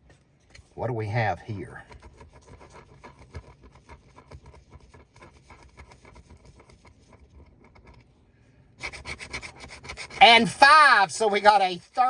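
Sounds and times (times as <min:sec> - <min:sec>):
scratching lottery ticket coating: 0:01.5 - 0:08.1, 0:08.8 - 0:12.0.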